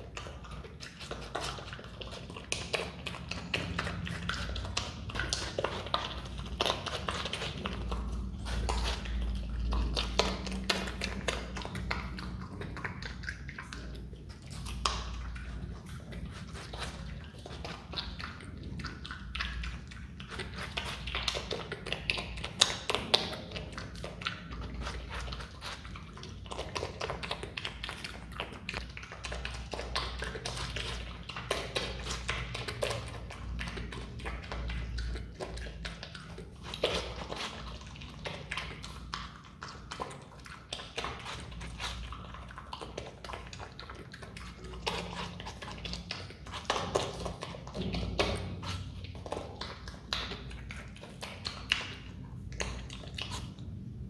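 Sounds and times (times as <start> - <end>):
marmot chewing watermelon: 0.0 - 54.0.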